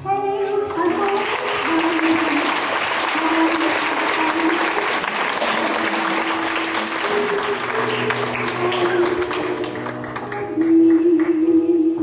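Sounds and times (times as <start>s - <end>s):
slow dance music: 0.0s - 12.0s
audience clapping: 0.7s - 11.4s.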